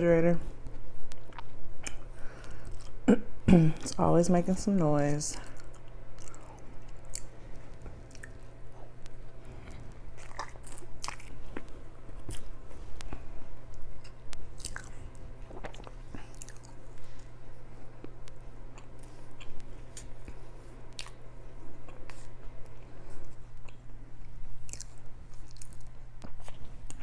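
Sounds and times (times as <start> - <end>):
refrigerator hum: 0.0 - 27.0
chewing and biting food: 1.0 - 3.0, 5.4 - 17.4, 18.0 - 27.0.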